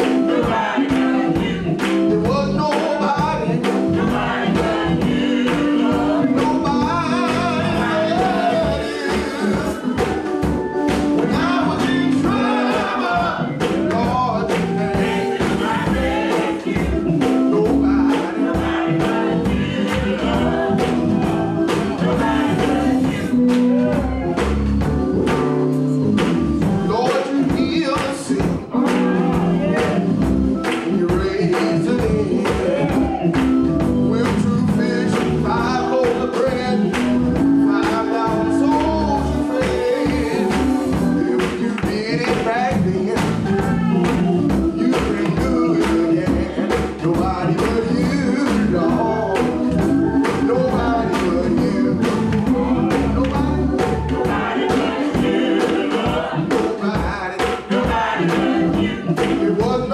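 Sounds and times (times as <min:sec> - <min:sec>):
gospel choir singing with band: 0:00.0 - 0:59.9
steady percussion beat: 0:00.0 - 0:59.9.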